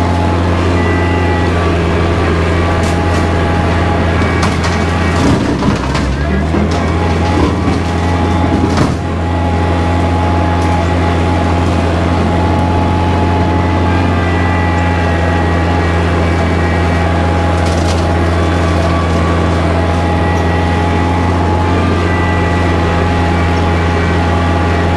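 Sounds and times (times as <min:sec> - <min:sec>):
tractor diesel engine droning: 0:00.0 - 0:24.9.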